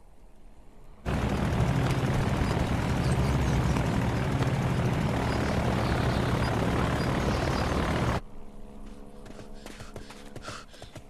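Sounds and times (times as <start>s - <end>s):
propeller plane engine droning: 0.9s - 11.0s.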